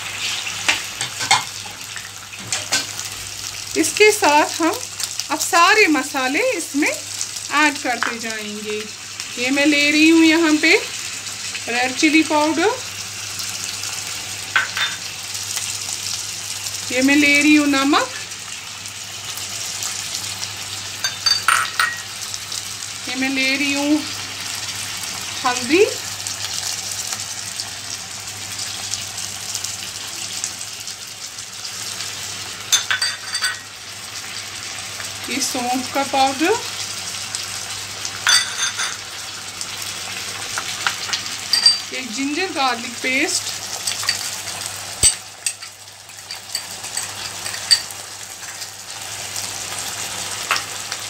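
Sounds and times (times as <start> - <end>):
tomatoes sizzling in oil: 0.0 - 51.0.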